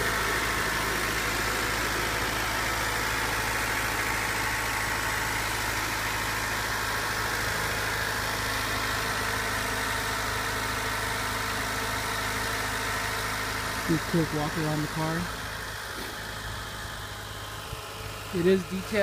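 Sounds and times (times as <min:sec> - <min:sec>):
car engine fast idling: 0:00.0 - 0:19.0.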